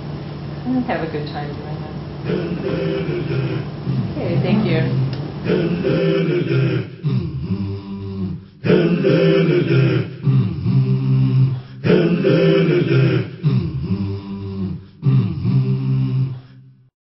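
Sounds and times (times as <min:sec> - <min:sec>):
low chant-like singing voices: 0:02.2 - 0:16.9.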